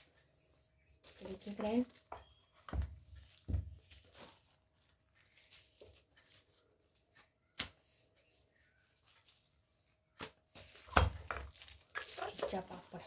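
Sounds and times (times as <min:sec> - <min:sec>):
handling wooden press and plastic sheets: 0:00.0 - 0:13.0.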